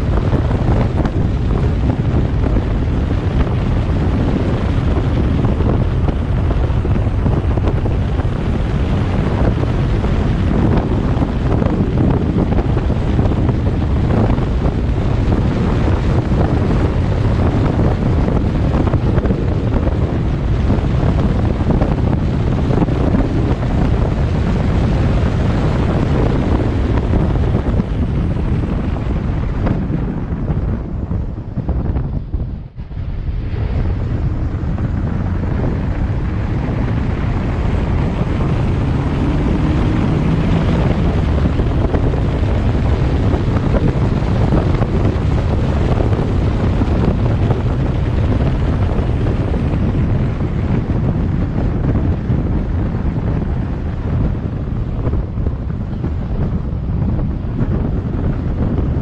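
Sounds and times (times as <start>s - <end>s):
vehicle rumble on road: 0.0s - 59.0s
wind buffeting microphone: 0.0s - 59.0s.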